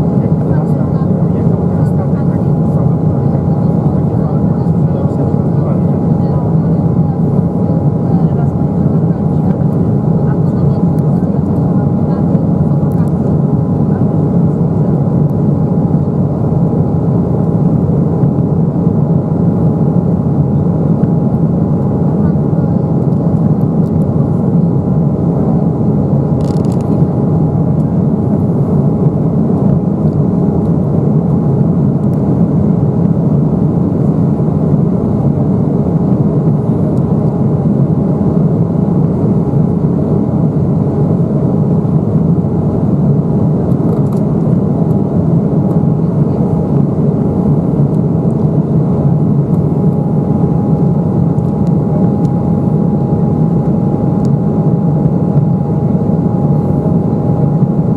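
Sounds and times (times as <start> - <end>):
airflow over fuselage: 0.0 - 57.9
airliner cabin engine rumble: 0.0 - 57.9
thin steady whine: 0.0 - 57.9.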